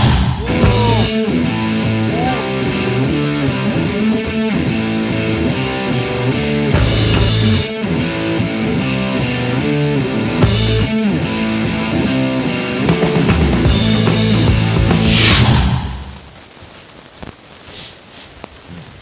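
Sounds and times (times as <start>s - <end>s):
guitar music with bending notes: 0.0s - 15.2s.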